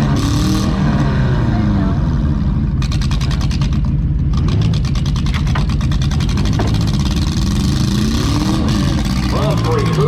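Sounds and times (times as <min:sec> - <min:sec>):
car engine running loud: 0:00.0 - 0:10.0.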